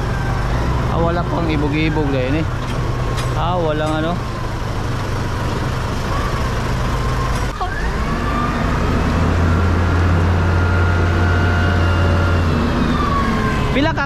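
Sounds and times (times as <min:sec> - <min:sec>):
forklift engine droning: 0:00.0 - 0:14.0.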